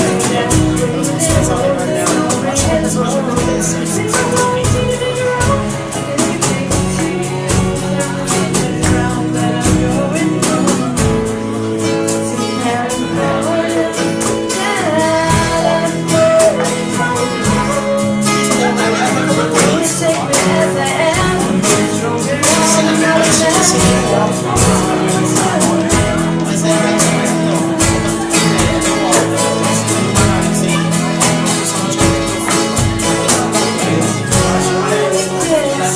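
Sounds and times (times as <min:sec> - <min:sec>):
acoustic guitars: 0:00.0 - 0:35.9
people singing: 0:00.0 - 0:35.9
percussion keeping a steady beat: 0:00.0 - 0:35.9.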